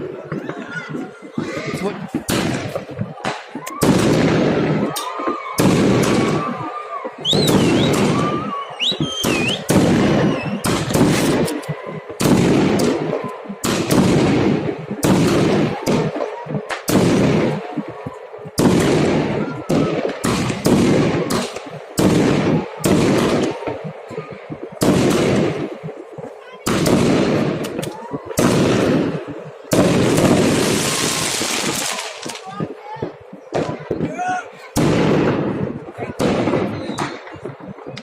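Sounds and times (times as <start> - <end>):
fireworks bangs with echo: 0.0 - 38.0.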